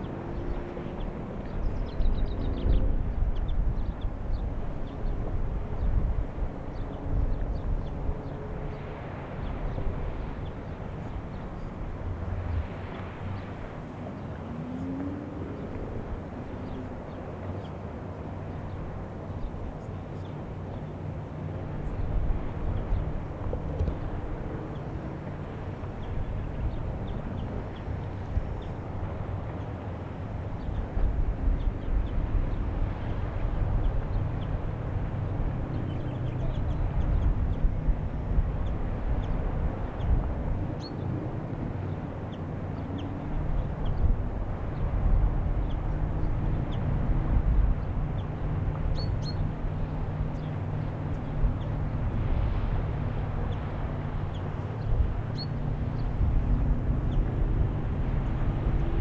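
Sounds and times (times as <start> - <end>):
wind buffeting microphone: 0.0 - 17.6, 18.3 - 59.0.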